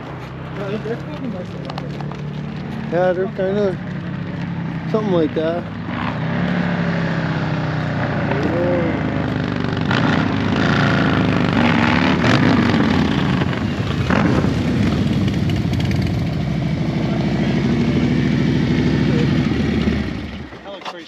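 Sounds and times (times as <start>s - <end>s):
motorcycle engine revving: 0.0s - 20.8s.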